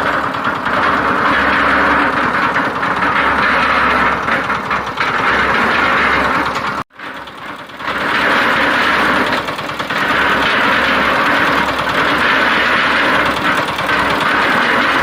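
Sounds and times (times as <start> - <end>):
concrete mixer running: 0.0 - 15.0.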